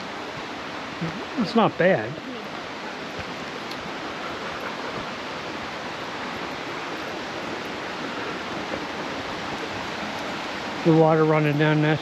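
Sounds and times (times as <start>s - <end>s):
brook water rushing: 0.0s - 12.0s.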